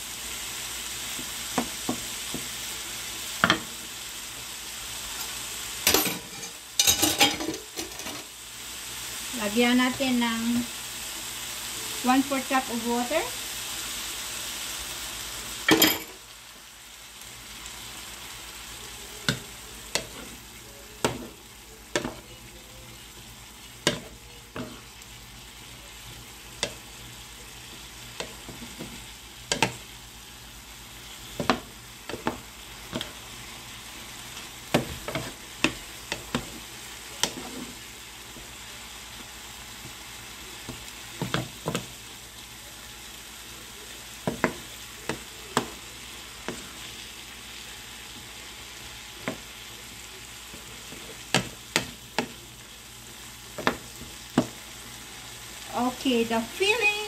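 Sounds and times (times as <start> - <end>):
filling sizzling in a pan: 0.0 - 57.0.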